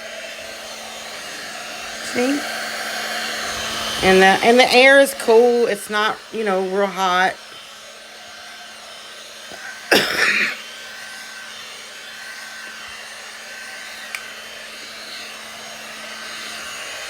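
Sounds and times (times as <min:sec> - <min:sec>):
pet hair dryer humming: 0:00.0 - 0:17.0.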